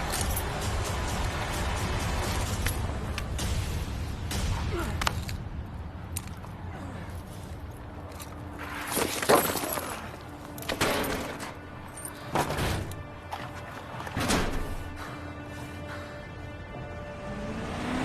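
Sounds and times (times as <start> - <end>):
low music drone: 0.0 - 8.7, 10.1 - 18.0.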